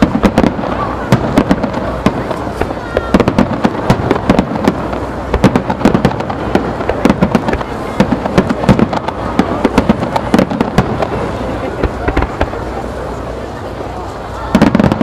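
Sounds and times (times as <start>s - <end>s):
firework shells bursting: 0.0s - 12.6s
continuous rumble: 0.0s - 15.0s.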